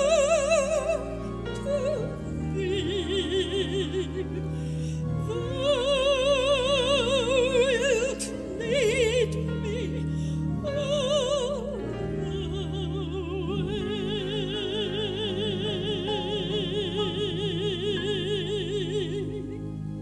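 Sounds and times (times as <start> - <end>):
woman singing operatically: 0.0 - 4.6, 5.2 - 20.0.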